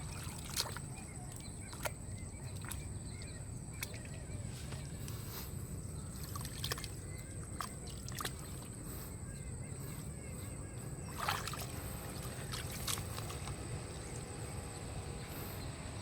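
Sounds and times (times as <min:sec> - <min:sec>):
water sloshing: 0:00.0 - 0:14.6.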